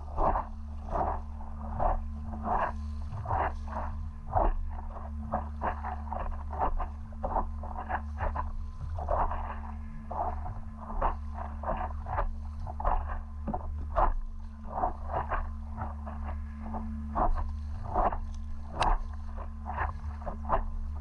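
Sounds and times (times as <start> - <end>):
paddle strokes splashing water: 0.0 - 21.0
steady low hum: 0.0 - 21.0.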